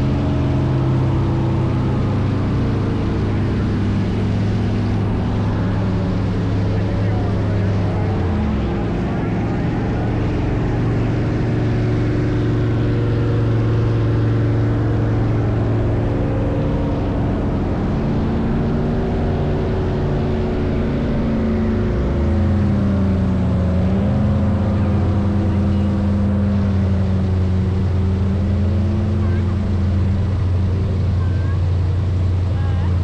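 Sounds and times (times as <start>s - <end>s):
airboat engine and propeller: 0.0s - 33.0s.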